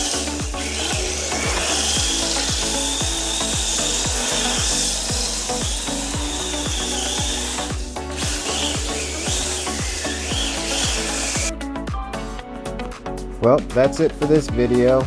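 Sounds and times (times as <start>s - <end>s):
electronic beat with kick drums: 0.0s - 15.0s.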